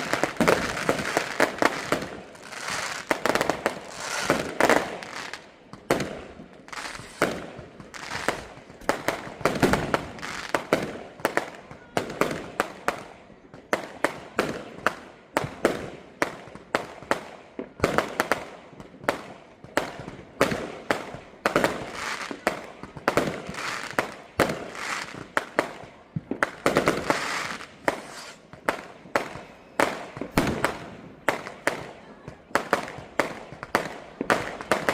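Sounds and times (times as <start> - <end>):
fireworks bangs: 0.0 - 34.9
fireworks crackling: 0.0 - 34.9.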